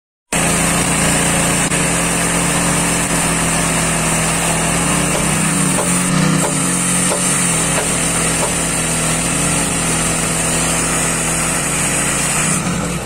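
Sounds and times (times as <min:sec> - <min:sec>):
saw engine running: 0:00.3 - 0:13.0
disc grinding through steel: 0:00.4 - 0:13.0.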